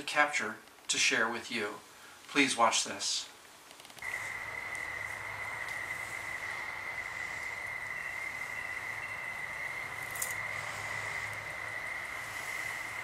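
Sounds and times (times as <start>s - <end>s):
hiss: 0.8s - 13.0s
crickets trilling: 2.4s - 13.0s.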